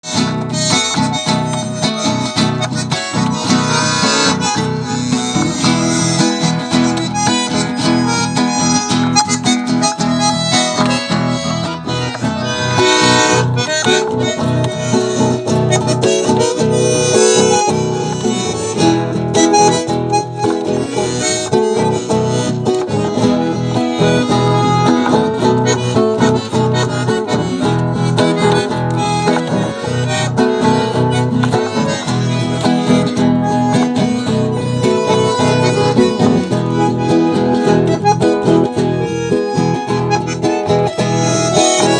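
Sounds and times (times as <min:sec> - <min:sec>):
acoustic guitar strumming: 0:00.0 - 0:41.9
gaita playing a tune: 0:00.0 - 0:41.9.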